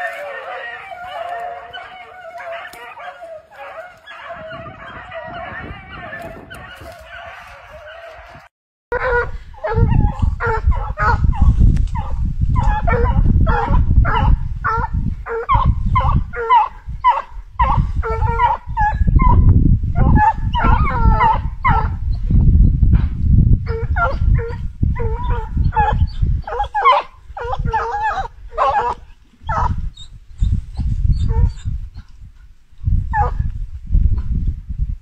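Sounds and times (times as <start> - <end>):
hounds baying and yelping: 0.0 - 22.3, 23.6 - 32.1, 33.1 - 33.5.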